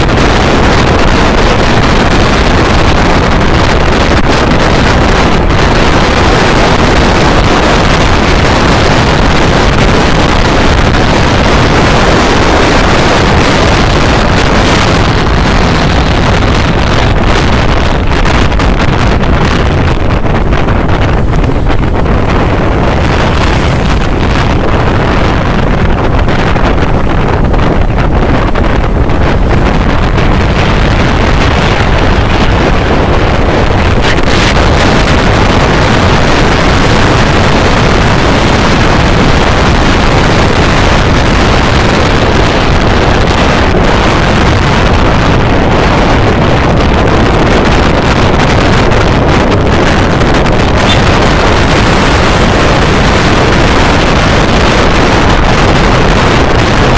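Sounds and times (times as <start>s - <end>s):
motorcycle engine running: 0.0s - 56.9s
wind rushing over microphone: 0.0s - 56.9s.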